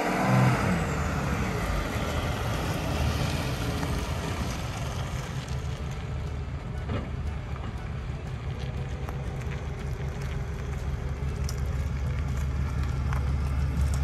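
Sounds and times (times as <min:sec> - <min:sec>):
pickup engine drone: 0:00.0 - 0:14.0
road and wind noise: 0:00.0 - 0:14.0.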